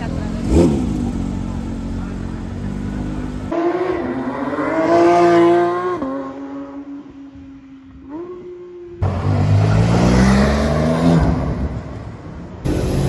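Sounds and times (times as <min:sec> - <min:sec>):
car engine revving: 0:00.0 - 0:07.2, 0:07.9 - 0:13.0.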